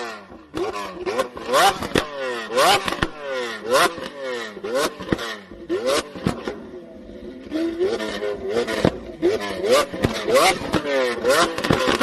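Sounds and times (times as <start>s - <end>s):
car engine revving: 0.0s - 12.0s
exhaust cracks: 0.1s - 12.0s.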